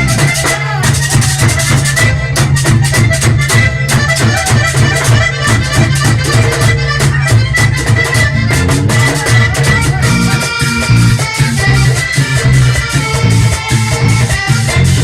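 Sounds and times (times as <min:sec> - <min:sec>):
accordion melody: 0:00.0 - 0:15.0
bass line: 0:00.0 - 0:15.0
fast percussion rhythm: 0:00.0 - 0:15.0.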